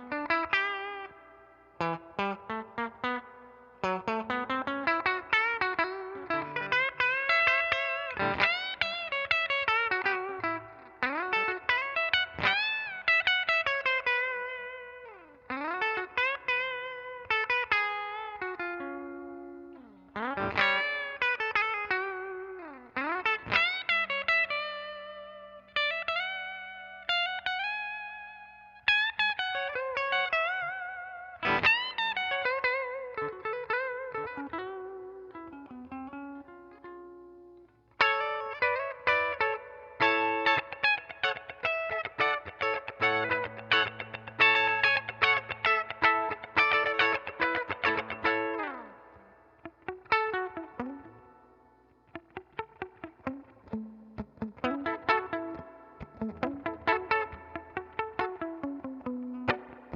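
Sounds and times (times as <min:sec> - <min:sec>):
clean electric guitar lead: 0:00.0 - 0:59.9.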